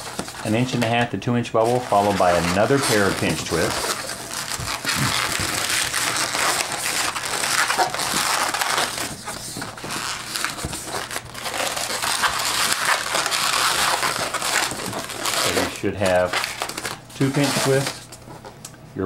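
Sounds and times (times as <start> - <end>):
balloon squeaking and rubbing: 0.0 - 18.1.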